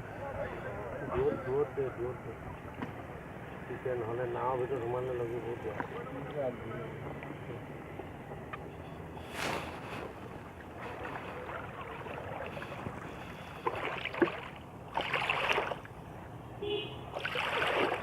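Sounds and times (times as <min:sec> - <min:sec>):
water swishing around a boat: 0:00.1 - 0:18.0.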